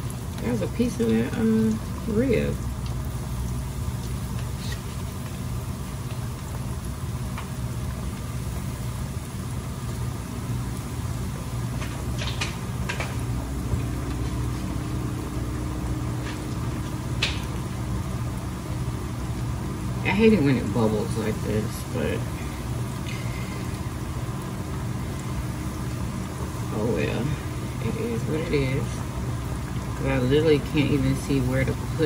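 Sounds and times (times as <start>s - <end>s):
low mechanical hum: 0.0s - 32.0s
oil bubbling in a pot: 0.0s - 32.0s.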